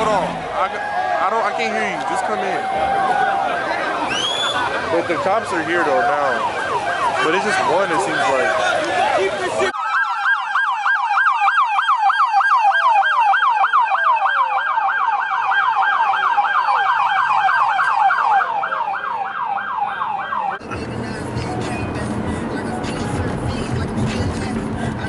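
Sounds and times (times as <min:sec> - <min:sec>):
police siren yelping: 0:00.0 - 0:20.6.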